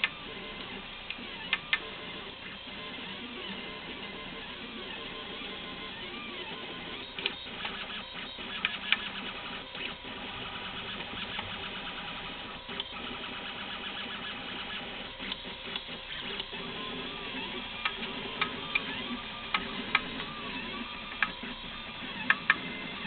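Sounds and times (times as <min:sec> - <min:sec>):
stepper motors buzzing and whining: 0:00.0 - 0:23.0.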